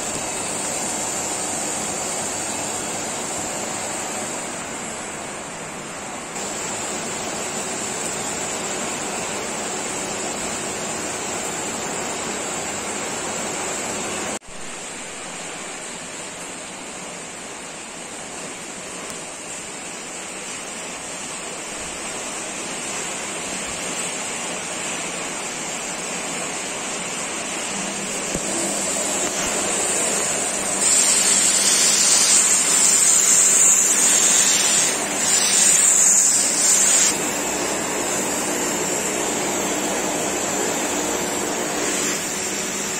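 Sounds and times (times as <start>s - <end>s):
vacuum cleaner running: 0.0s - 14.4s, 21.2s - 42.9s.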